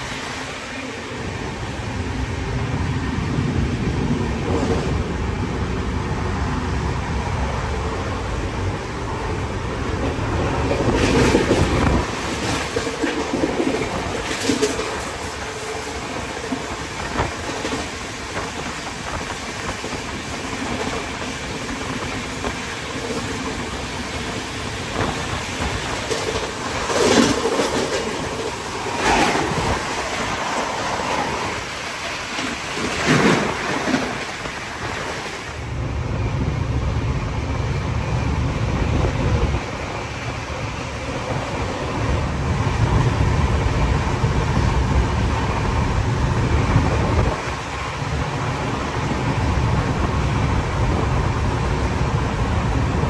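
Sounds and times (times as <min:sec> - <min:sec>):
deep rumble of train wheels: 0:00.0 - 0:53.0
rushing wind and rail noise: 0:00.0 - 0:53.0
train whooshes: 0:00.0 - 0:53.0.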